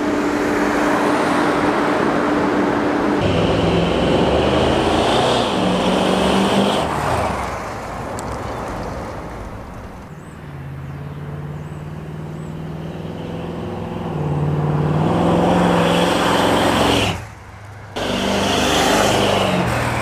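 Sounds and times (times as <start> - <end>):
loud engine running: 0.0 - 8.1, 12.0 - 20.0.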